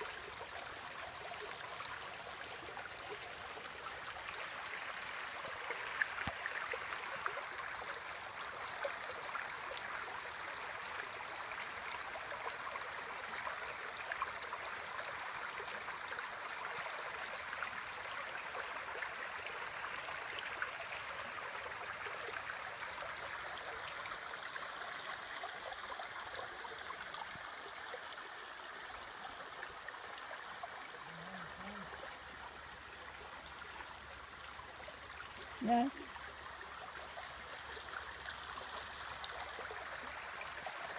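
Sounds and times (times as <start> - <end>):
creek running over rocks: 0.0 - 40.9.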